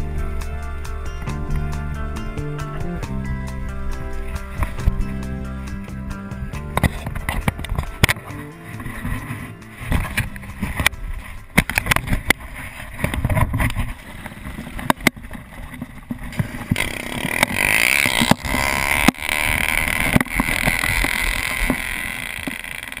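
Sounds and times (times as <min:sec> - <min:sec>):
steady rushing noise: 0:00.0 - 0:23.0
wheels rolling over pavement: 0:00.0 - 0:23.0.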